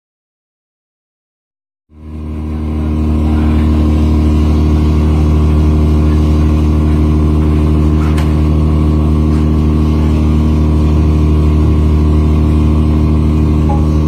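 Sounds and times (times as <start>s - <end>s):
boat engine droning: 1.9s - 14.0s.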